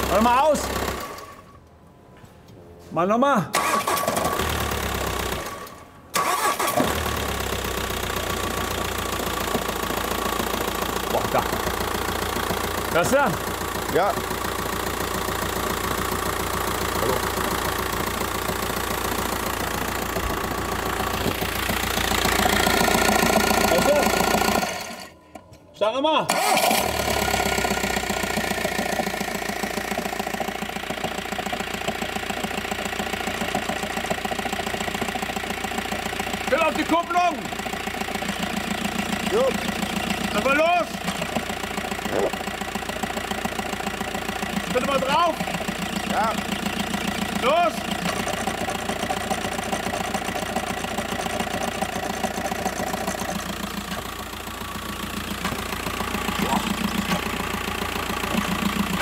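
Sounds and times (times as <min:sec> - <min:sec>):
van engine idling: 0:00.0 - 0:01.5, 0:04.4 - 0:25.4, 0:26.4 - 0:59.0
engine knocking: 0:06.9 - 0:25.1, 0:26.4 - 0:59.0.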